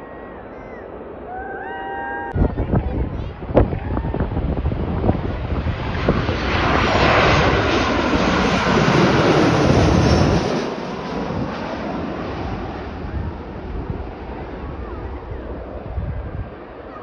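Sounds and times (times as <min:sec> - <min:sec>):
jet plane passing low overhead: 0:00.0 - 0:17.0.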